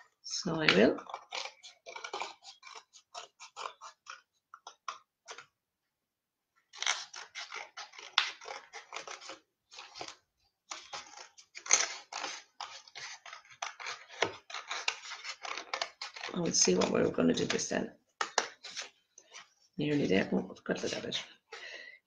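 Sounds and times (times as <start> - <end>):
scissors cutting paper: 0.0 - 5.5, 6.7 - 20.1.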